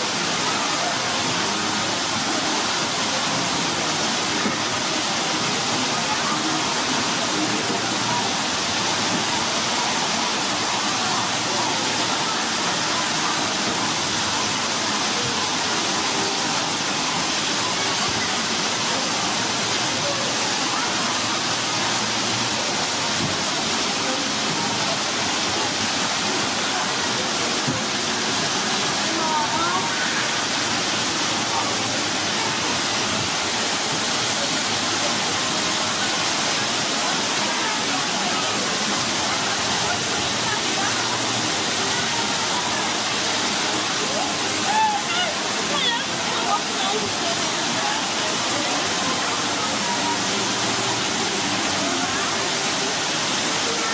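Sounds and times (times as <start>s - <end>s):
water falling into a pool: 0.0s - 53.9s.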